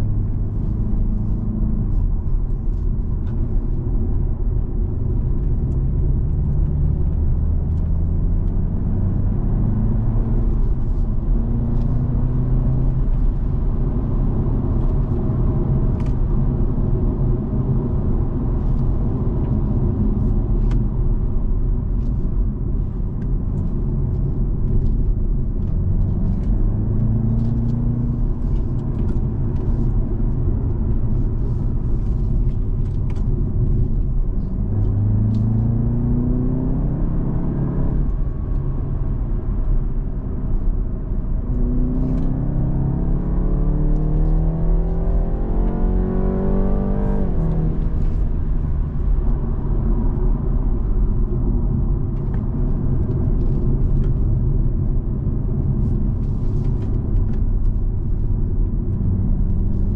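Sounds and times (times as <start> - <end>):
car engine accelerating: 0.0 - 59.9
low road rumble: 0.0 - 59.9.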